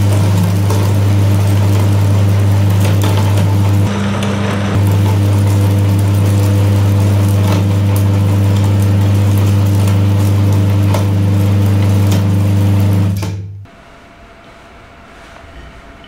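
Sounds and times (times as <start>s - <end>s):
meat grinder motor humming: 0.0s - 13.5s.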